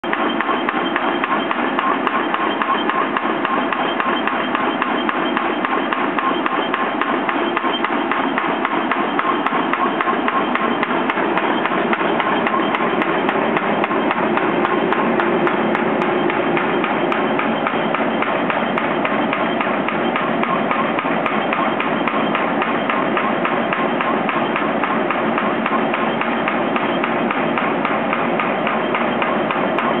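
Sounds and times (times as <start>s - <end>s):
pile hammer hammering: 0.0s - 30.0s.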